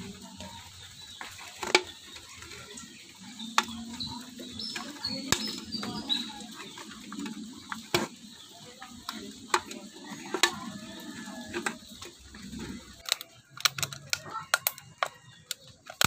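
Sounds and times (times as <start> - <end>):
can metal clicking and crinkling: 0.0 - 16.0.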